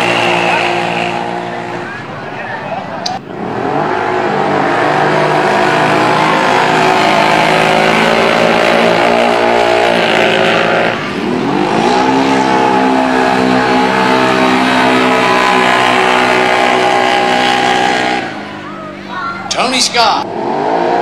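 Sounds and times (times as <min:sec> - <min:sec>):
atv engines revving: 0:00.0 - 0:21.0.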